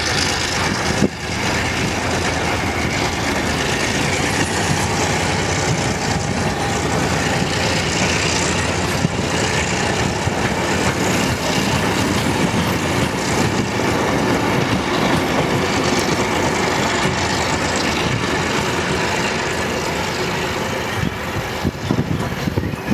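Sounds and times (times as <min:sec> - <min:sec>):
locomotive engine running: 0:00.0 - 0:22.9
wheels rumbling on rails: 0:00.0 - 0:22.9.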